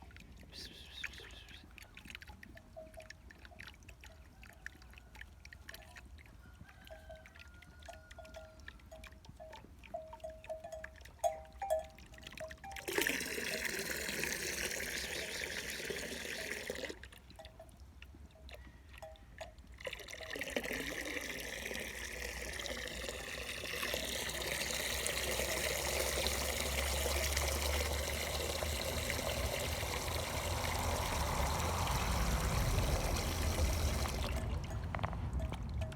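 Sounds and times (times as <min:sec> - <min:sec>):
running water trickling: 0:00.0 - 0:35.9.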